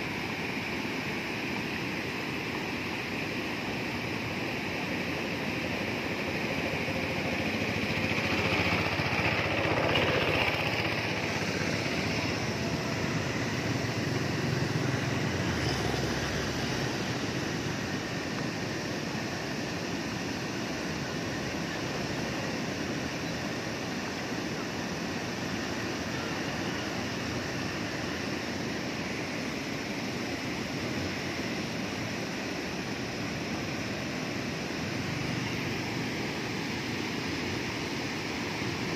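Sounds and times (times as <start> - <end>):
water rushing over weir: 0.0 - 38.9.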